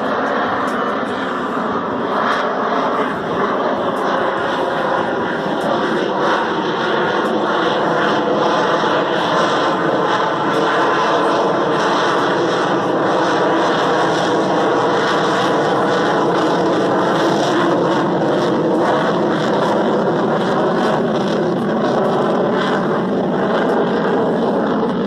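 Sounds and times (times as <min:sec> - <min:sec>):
aircraft engine drone: 0:00.0 - 0:25.0.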